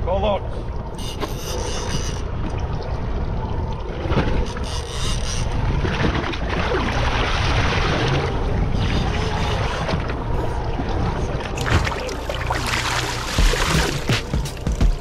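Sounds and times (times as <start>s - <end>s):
water washing alongside boat: 0.0s - 15.0s.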